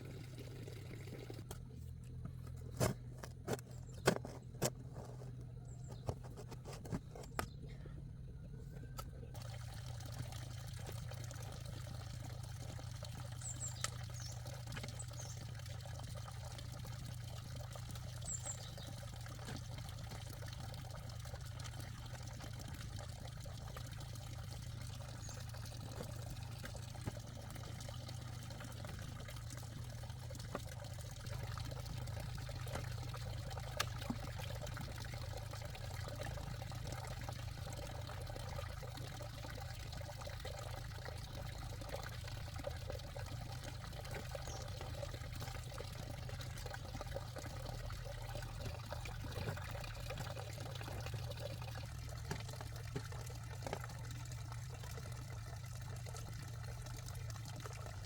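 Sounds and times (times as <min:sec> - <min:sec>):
water pouring and trickling: 0:00.0 - 0:58.0.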